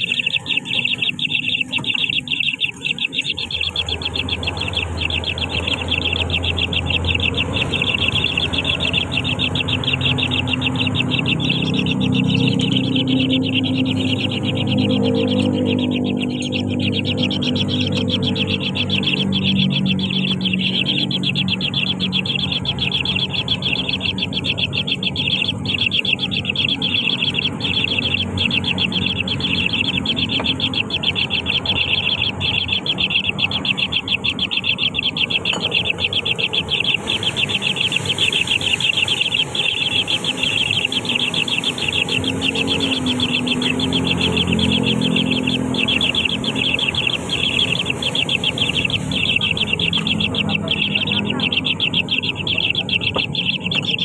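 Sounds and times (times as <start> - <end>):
nestling birds begging chirps: 0.0 - 54.0.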